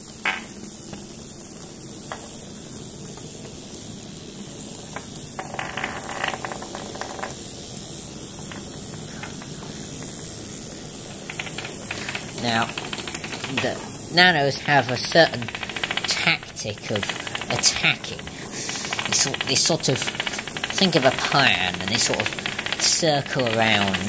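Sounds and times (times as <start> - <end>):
vibrating toys buzzing on tabletop: 0.0 - 24.0
rapid clicking: 0.1 - 24.0.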